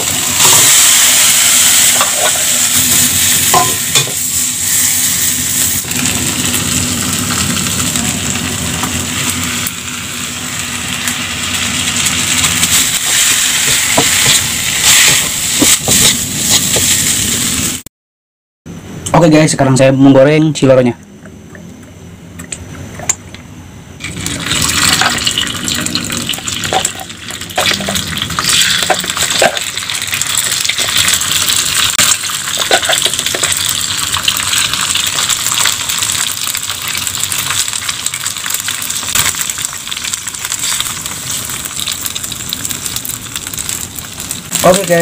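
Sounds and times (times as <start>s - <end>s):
food sizzling in hot oil: 0.0s - 17.8s, 24.0s - 45.0s.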